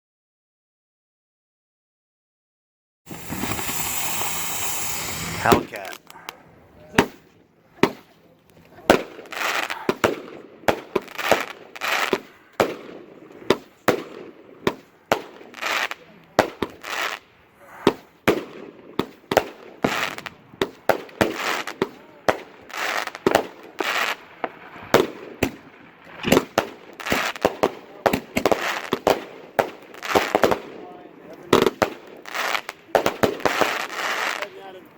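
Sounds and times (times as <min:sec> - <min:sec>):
firework cake bangs: 0:03.1 - 0:06.3, 0:06.9 - 0:34.5
crackling hiss: 0:03.1 - 0:34.9.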